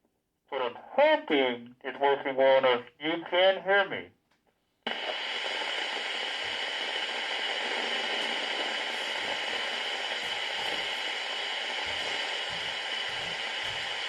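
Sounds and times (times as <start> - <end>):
radio static hiss: 0.5 - 4.0, 4.8 - 14.0.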